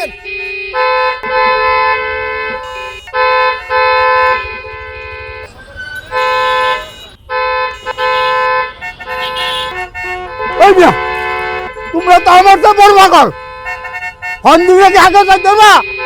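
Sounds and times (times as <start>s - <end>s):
vehicle horns honking: 0.0s - 16.0s.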